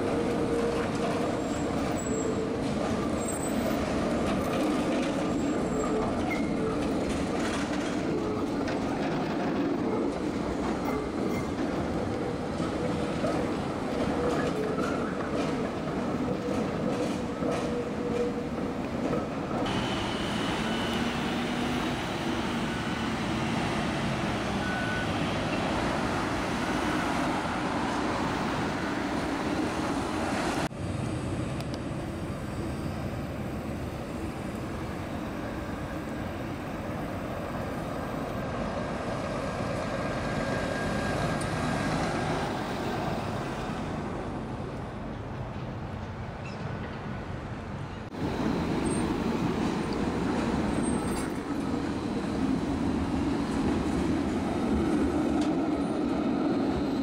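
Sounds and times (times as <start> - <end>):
city traffic rumble: 0.0 - 57.0
tram running on rails: 0.0 - 57.0.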